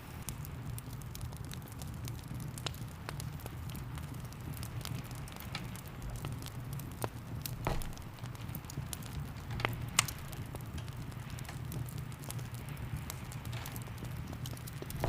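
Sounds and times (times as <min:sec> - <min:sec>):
log fire crackling and popping: 0:00.0 - 0:15.0.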